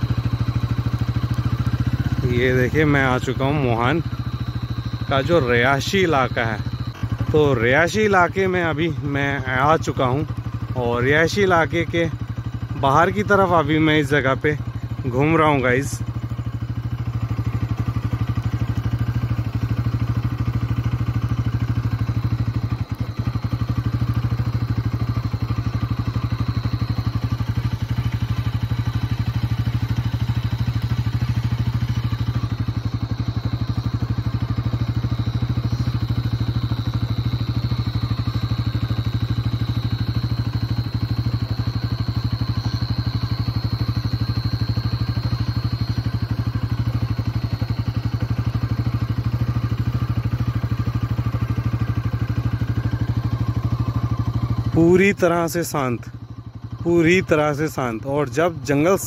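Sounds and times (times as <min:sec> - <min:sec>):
motorcycle engine droning: 0:00.0 - 0:59.0.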